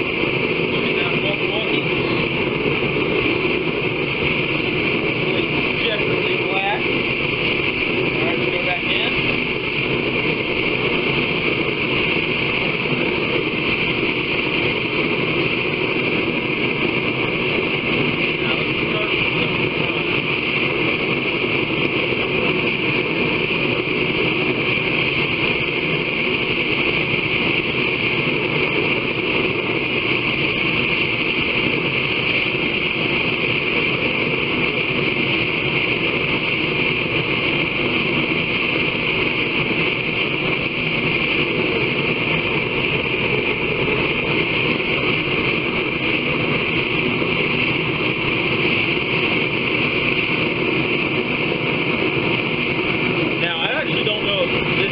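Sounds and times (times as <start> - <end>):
forge roaring with hiss: 0.0 - 54.9.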